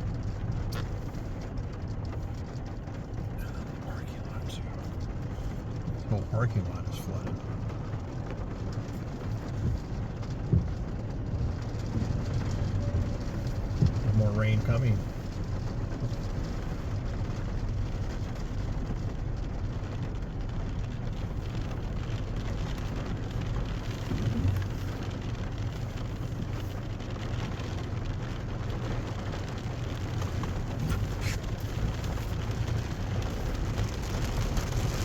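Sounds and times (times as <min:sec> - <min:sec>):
car driving hum from inside cabin: 0:00.0 - 0:35.0
rain falling on car: 0:00.0 - 0:35.0.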